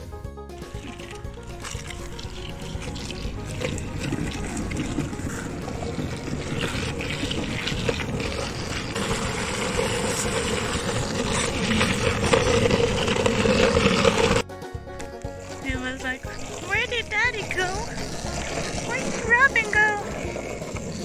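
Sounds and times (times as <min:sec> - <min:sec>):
longboard wheels rolling on asphalt: 0:00.6 - 0:14.5, 0:15.1 - 0:21.0.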